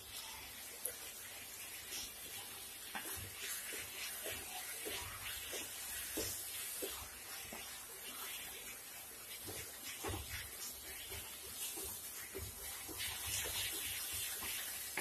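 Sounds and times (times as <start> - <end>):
soft sizzle: 0.0 - 15.0
wooden spatula scraping a pan: 1.1 - 15.0.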